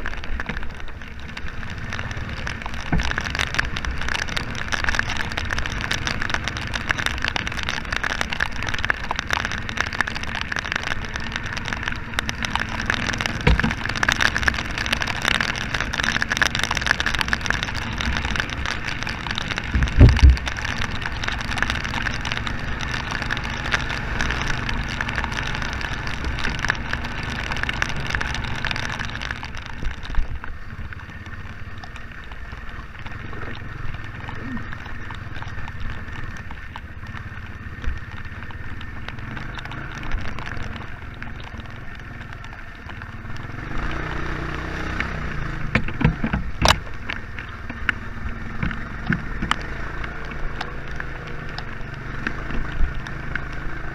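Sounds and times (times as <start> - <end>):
atv engine running: 0.0 - 53.9
heavy rain pattering: 0.0 - 53.9.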